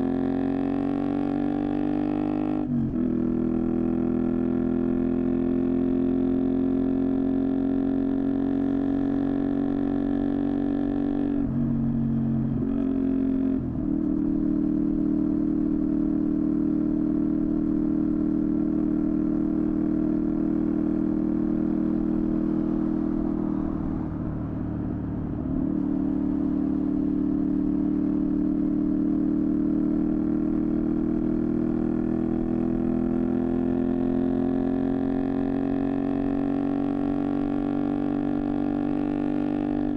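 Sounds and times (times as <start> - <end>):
motorcycle engine droning: 6.7 - 39.9.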